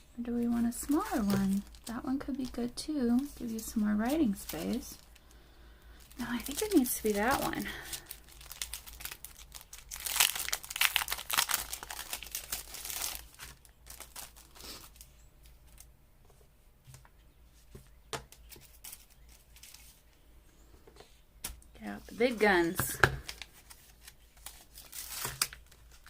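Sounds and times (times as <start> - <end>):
paper rustling and crinkling: 0.6 - 5.3, 6.0 - 15.9, 17.7 - 20.1, 21.4 - 26.0.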